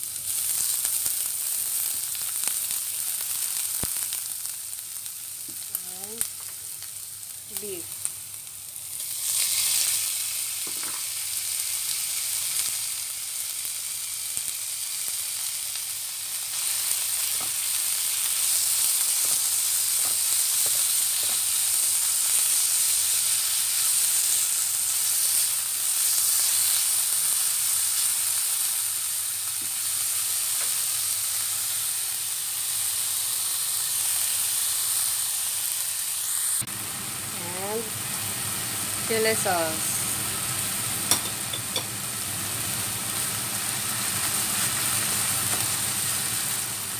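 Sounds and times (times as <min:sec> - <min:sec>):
ground beef sizzling in oil: 0:00.0 - 0:46.9.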